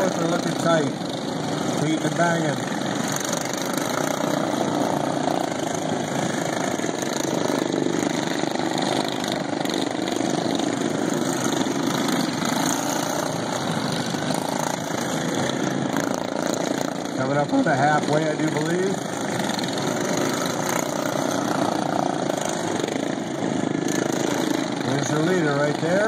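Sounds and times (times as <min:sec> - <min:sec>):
lawn mower engines at full throttle: 0:00.0 - 0:26.0.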